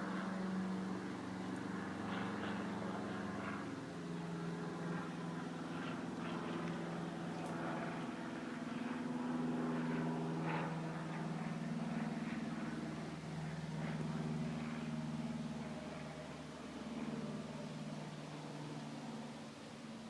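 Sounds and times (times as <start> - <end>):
aircraft engine drone: 0.0 - 20.0.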